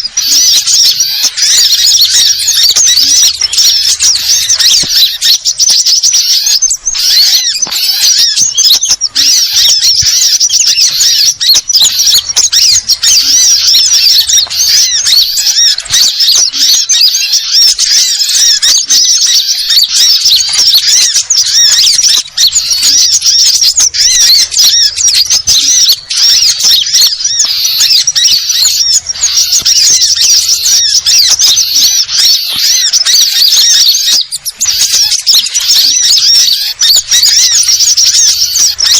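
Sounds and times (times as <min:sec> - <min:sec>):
small birds twittering: 0:00.0 - 0:38.9.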